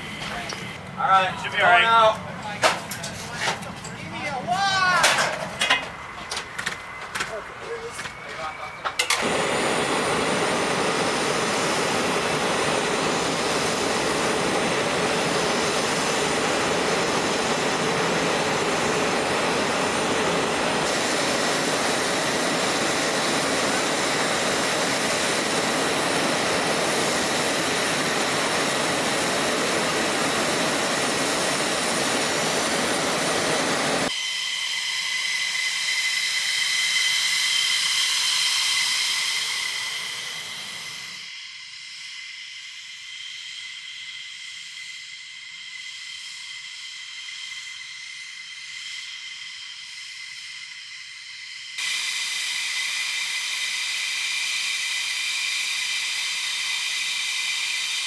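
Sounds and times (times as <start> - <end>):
high turbine whine: 0.0 - 58.0
jet engine rushing: 0.0 - 58.0.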